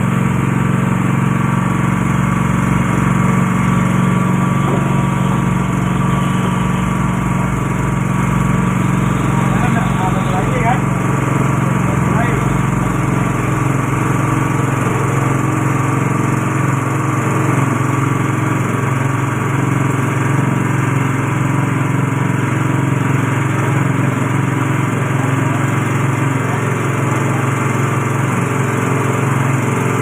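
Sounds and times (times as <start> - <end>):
machine motor running steadily: 0.0 - 30.0.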